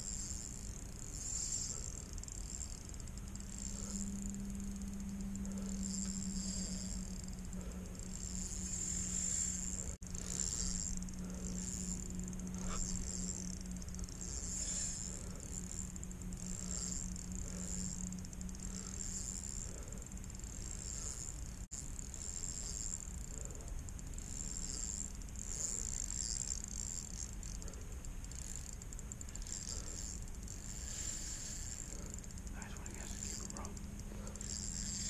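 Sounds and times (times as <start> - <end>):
crickets chirping: 0.0 - 35.0
low steady hum: 0.0 - 35.0.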